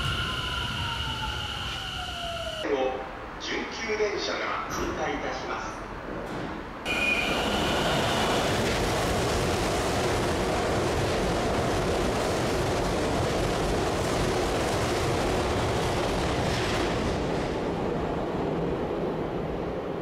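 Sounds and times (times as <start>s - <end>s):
electric train passing: 0.0s - 3.8s, 6.7s - 20.0s.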